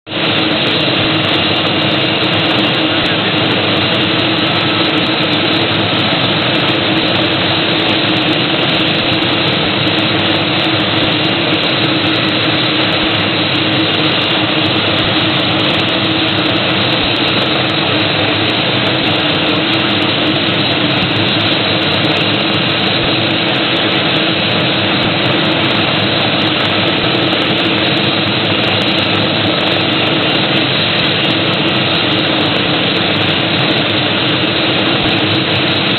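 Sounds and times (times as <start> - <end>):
helicopter turbine and rotor noise: 0.1 - 35.9.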